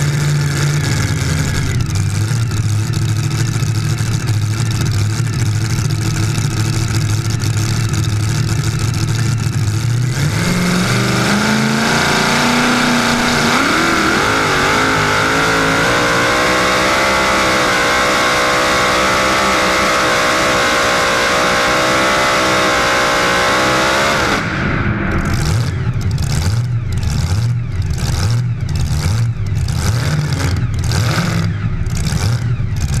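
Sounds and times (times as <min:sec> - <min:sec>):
tractor engine revving and idling: 0:00.0 - 0:33.0.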